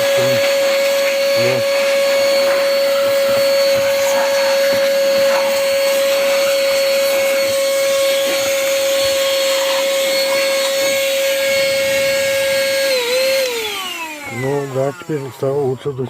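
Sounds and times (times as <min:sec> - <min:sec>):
handheld vacuum cleaner running: 0:00.0 - 0:16.0.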